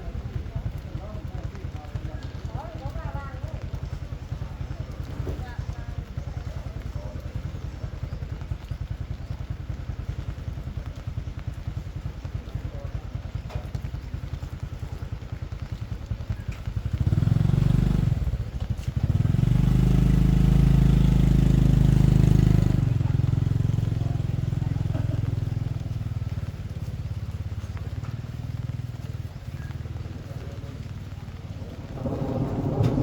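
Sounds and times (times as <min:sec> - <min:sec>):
small motorcycle engine idling: 0:00.0 - 0:33.0.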